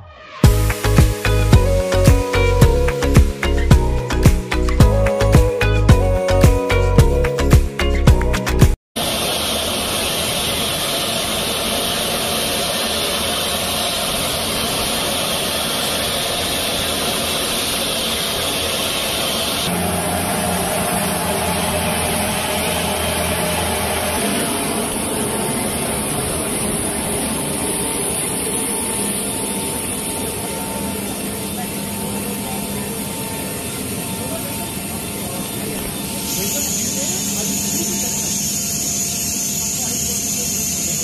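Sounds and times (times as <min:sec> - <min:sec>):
jet engine whine: 0:00.0 - 0:03.0, 0:09.0 - 0:41.0.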